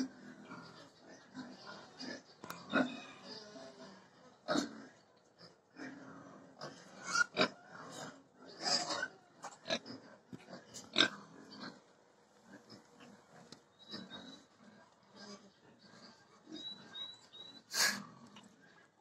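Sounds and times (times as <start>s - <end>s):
pigs grunting: 0.0s - 19.0s.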